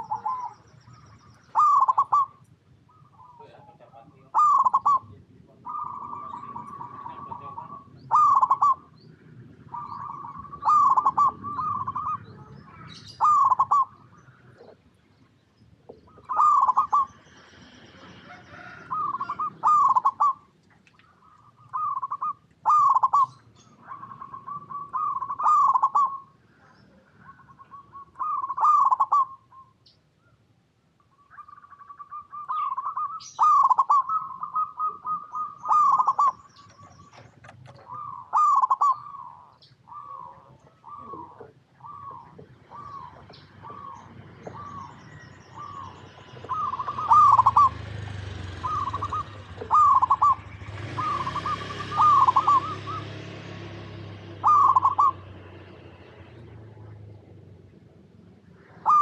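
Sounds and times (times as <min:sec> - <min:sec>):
doves cooing: 0:00.0 - 0:30.4, 0:31.0 - 0:59.0.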